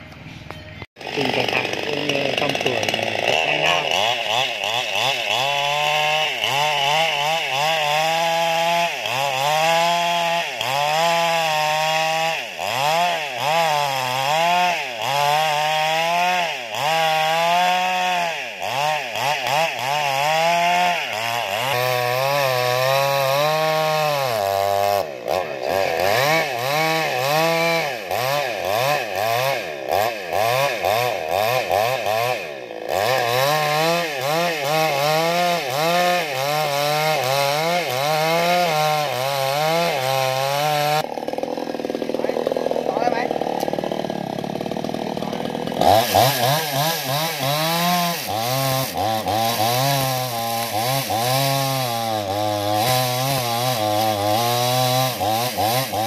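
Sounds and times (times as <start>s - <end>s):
chainsaw cutting into wood: 0.9s - 56.0s.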